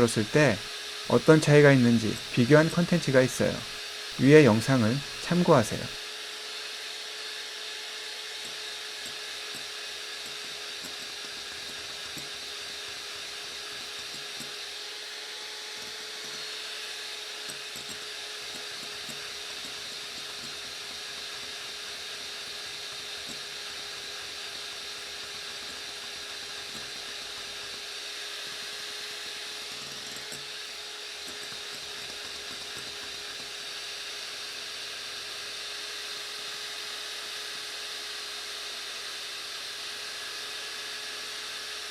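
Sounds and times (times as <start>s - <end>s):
electric hand mixer running: 0.0s - 41.9s.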